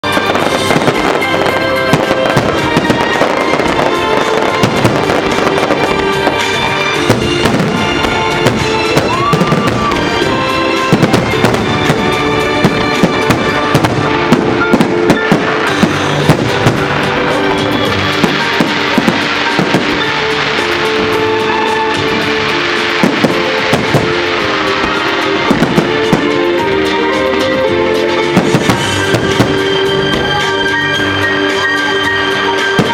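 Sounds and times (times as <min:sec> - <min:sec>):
fireworks bangs and crackles: 0:00.0 - 0:32.9
music playing: 0:00.0 - 0:32.9.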